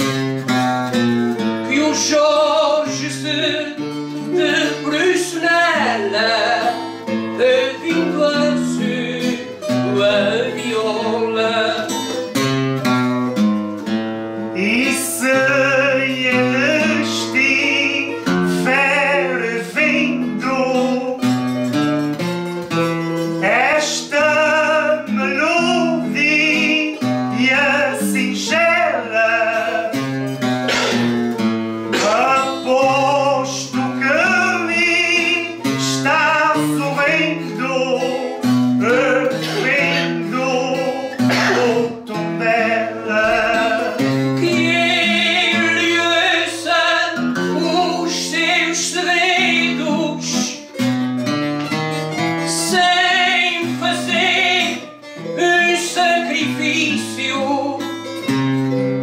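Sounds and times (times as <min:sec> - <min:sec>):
person singing with vibrato: 0:00.0 - 0:12.8, 0:14.1 - 0:22.0, 0:22.7 - 0:51.0, 0:51.7 - 0:59.0
plucked strings and guitar: 0:00.0 - 0:59.0.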